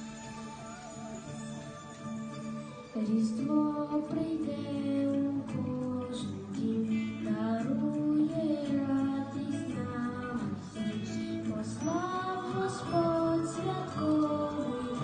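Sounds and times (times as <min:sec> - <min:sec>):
high voice singing a carol: 0:00.0 - 0:15.0
instrumental accompaniment: 0:00.0 - 0:15.0.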